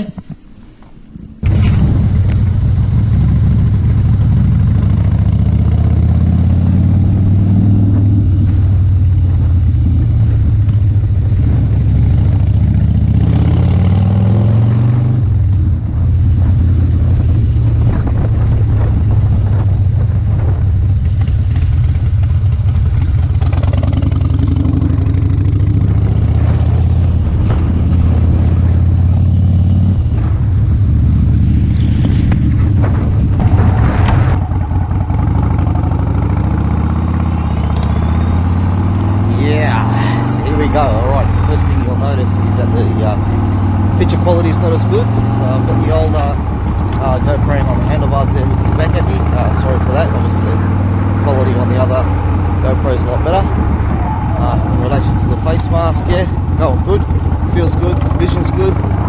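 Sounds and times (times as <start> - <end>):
motorcycle engine running: 1.4 - 59.0.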